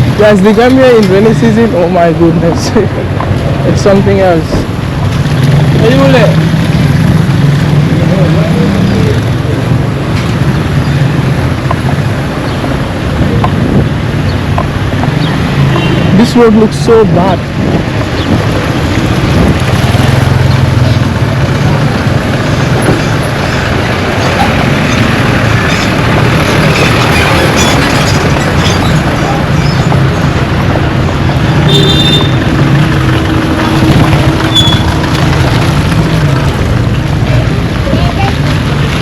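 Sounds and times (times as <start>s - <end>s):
vehicle engine humming: 0.0s - 39.0s
wind and road noise: 0.0s - 39.0s.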